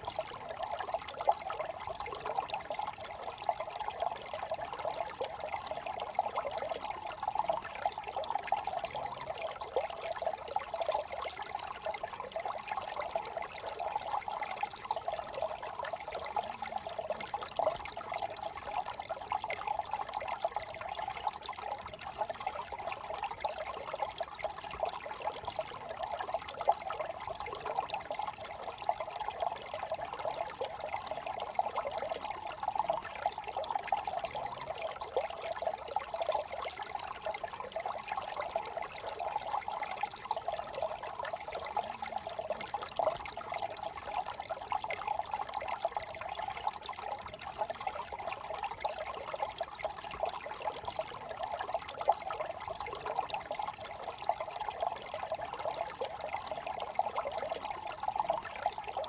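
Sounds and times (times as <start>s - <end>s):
brook babbling over stones: 0.0s - 59.0s.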